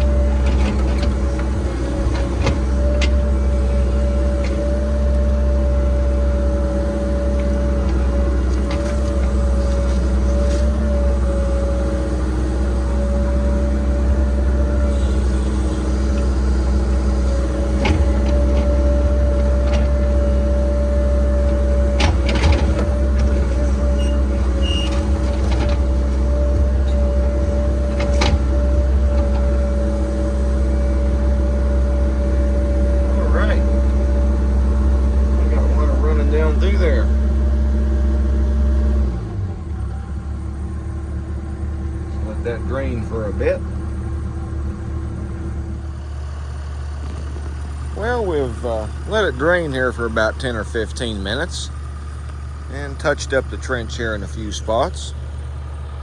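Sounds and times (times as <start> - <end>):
excavator diesel engine: 0.0 - 56.0.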